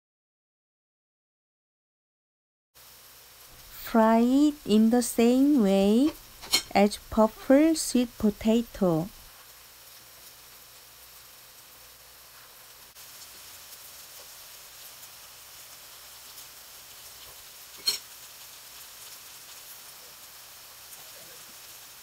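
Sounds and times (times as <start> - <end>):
potato pancakes sizzling in oil: 2.8 - 22.0.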